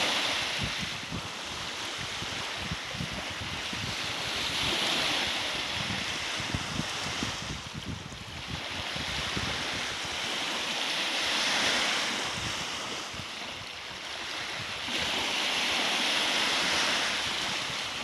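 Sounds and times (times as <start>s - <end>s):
lake waves washing on sand: 0.0s - 18.0s.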